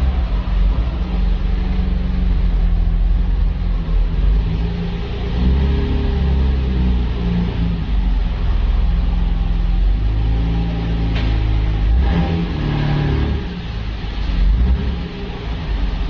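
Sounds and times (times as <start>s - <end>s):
car engine at low revs: 0.0s - 16.0s.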